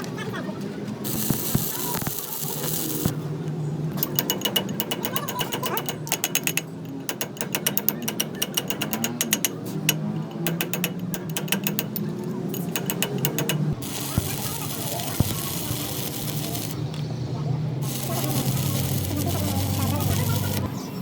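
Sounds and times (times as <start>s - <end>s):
ratchet wrench clicking: 1.1s - 3.2s, 3.9s - 16.8s, 17.8s - 20.7s.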